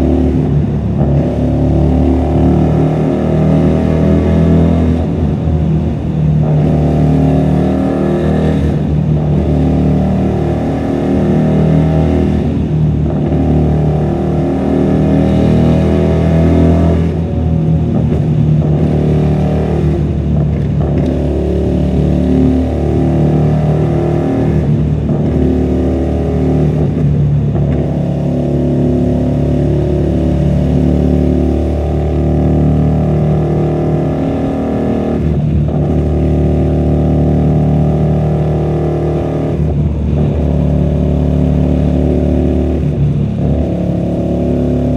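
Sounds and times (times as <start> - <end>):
motorcycle engine while riding: 0.0 - 44.9.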